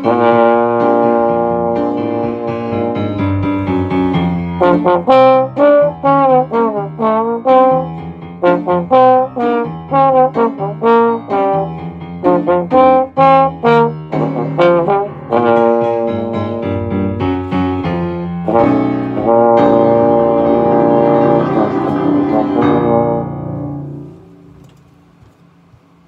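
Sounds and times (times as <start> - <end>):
trombone playing jazz: 0.0 - 24.3.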